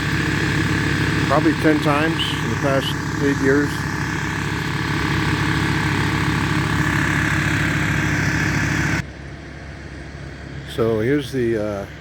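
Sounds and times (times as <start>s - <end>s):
wood chipper engine running: 0.0s - 12.0s.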